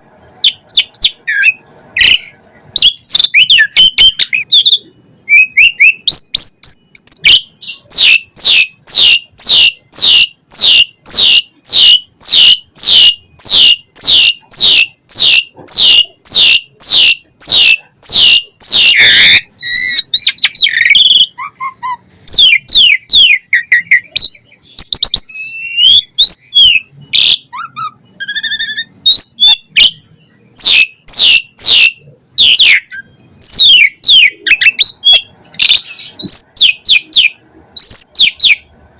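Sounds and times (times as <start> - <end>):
harsh bird call: 0.0 - 38.7
starling singing: 0.0 - 38.8.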